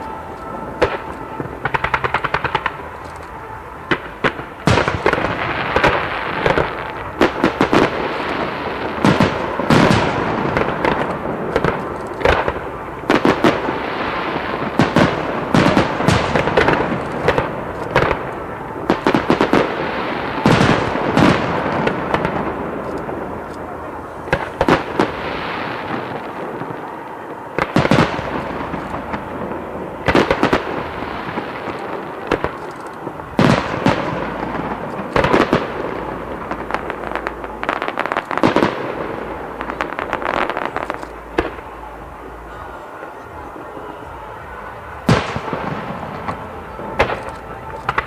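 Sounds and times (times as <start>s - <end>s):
small crackling firework bursts: 0.0s - 48.0s.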